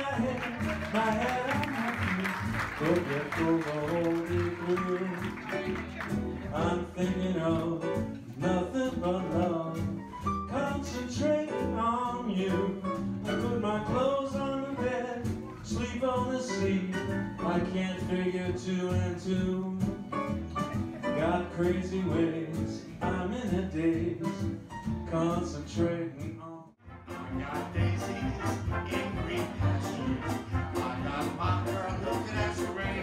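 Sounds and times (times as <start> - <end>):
man singing into a microphone: 0.0 - 5.4, 6.4 - 20.1, 21.0 - 26.8, 27.5 - 33.0
live band: 0.0 - 33.0.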